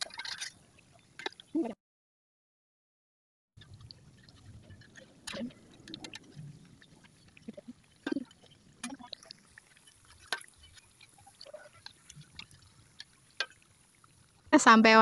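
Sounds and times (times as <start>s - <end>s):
oil sizzling and popping: 0.0s - 1.6s, 3.6s - 15.0s.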